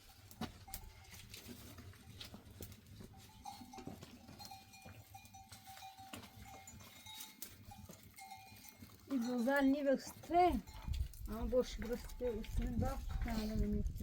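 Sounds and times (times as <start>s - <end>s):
sheep and goats calling: 0.1s - 12.6s.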